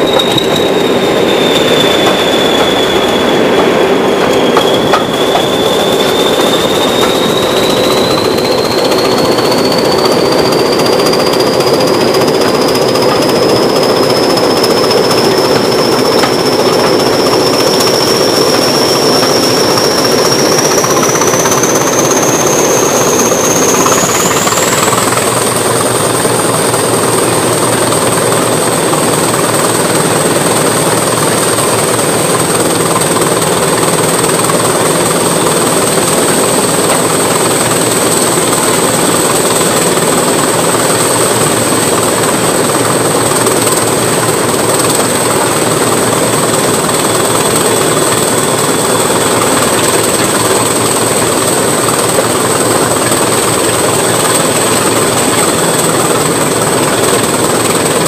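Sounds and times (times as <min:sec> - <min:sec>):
diesel locomotive engine clatter: 0:00.0 - 0:58.0
turbocharger whistle: 0:00.0 - 0:58.0.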